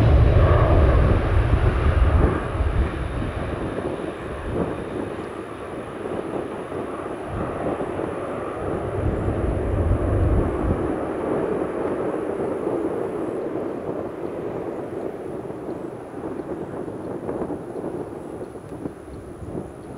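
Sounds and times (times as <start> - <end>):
jet engine rumble: 0.0 - 19.9.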